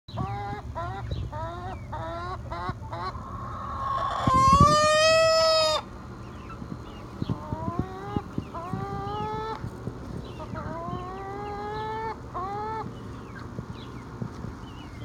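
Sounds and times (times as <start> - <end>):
hen calling: 0.1 - 15.0.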